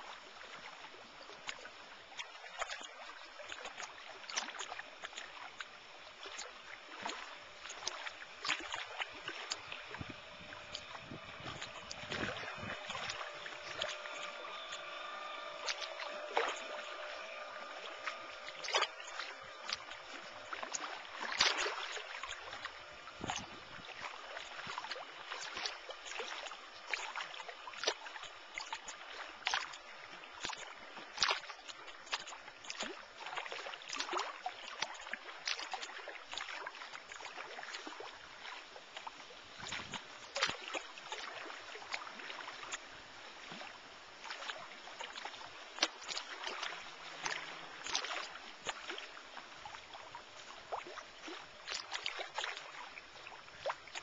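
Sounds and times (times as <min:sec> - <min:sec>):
choppy water lapping and splashing: 0:00.0 - 0:54.0.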